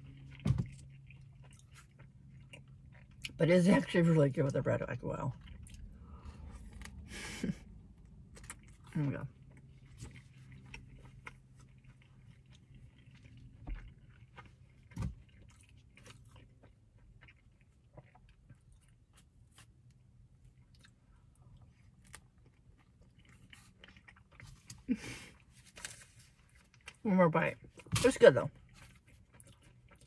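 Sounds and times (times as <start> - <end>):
person chewing and biting bread: 0.0 - 3.4, 5.3 - 27.0, 28.5 - 30.0
low steady hum: 0.0 - 30.0.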